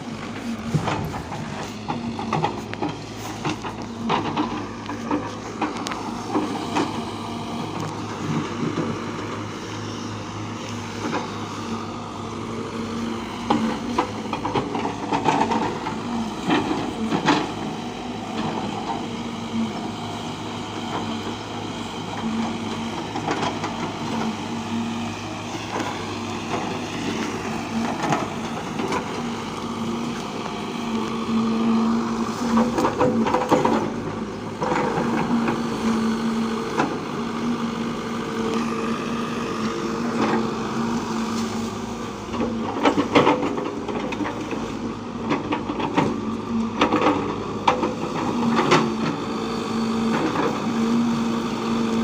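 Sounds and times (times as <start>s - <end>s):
heavy machine engine running: 0.0s - 52.0s.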